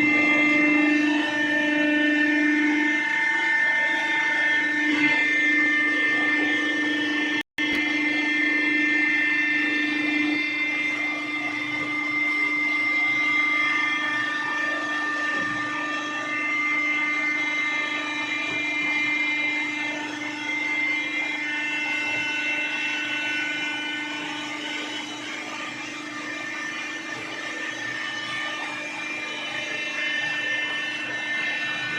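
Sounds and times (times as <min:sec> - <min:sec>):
hydraulic pump whine: 0:00.0 - 0:31.9
motor low hum: 0:00.0 - 0:31.9.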